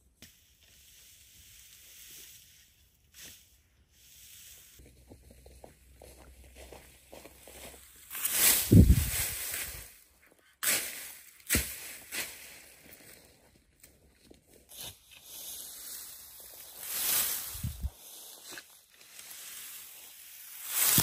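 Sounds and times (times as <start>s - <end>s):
dry grass stalks rustling: 0.2s - 21.0s.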